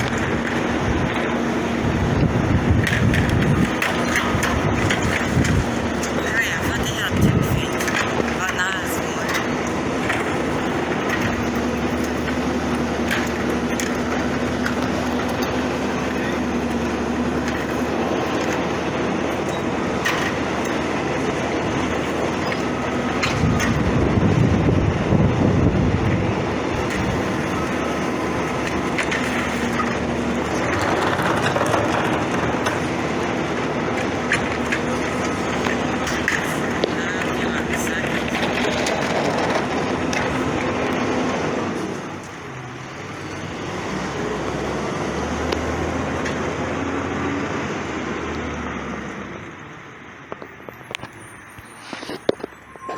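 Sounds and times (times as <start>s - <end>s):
garbage truck running: 0.0s - 52.9s.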